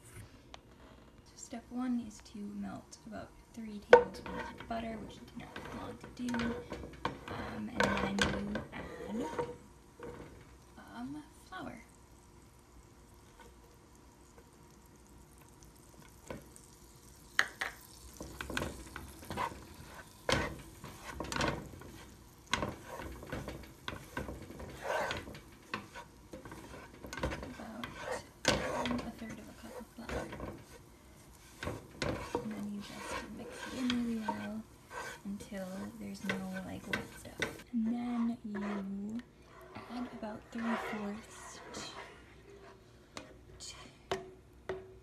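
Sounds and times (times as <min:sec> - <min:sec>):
spatula scraping a pan: 0:03.7 - 0:10.7, 0:12.8 - 0:14.6, 0:15.3 - 0:43.5.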